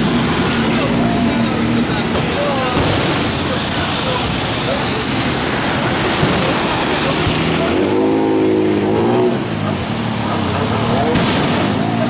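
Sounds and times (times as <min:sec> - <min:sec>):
crowd chattering: 0:00.0 - 0:12.0.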